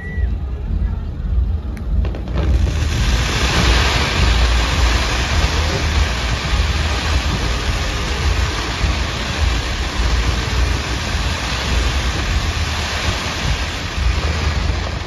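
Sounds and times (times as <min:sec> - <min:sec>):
fireworks booming: 0:00.0 - 0:15.0
crackling hiss of sparks: 0:02.1 - 0:15.0.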